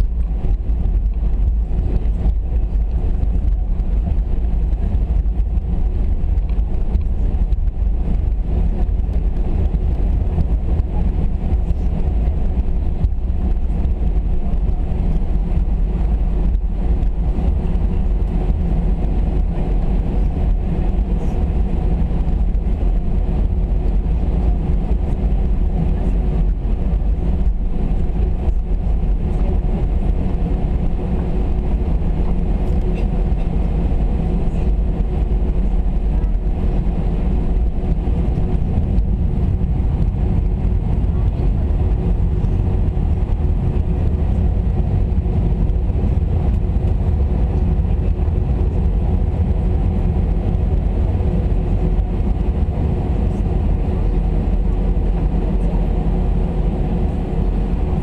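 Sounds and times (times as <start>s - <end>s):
constant cabin hum: 0.0s - 58.0s
jet engine rumble: 0.0s - 58.0s.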